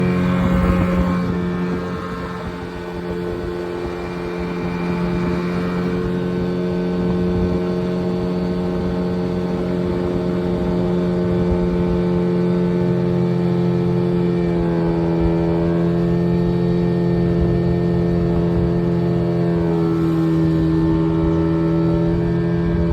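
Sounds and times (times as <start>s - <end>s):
low rumbling noise: 0.0s - 22.9s
vehicle engine droning: 0.0s - 22.9s.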